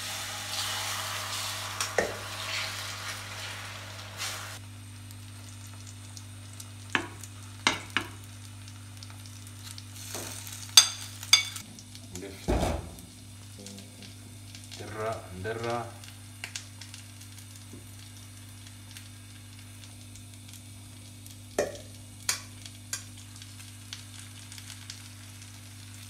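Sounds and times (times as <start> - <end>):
egg sizzling in hot oil: 0.0 - 26.0.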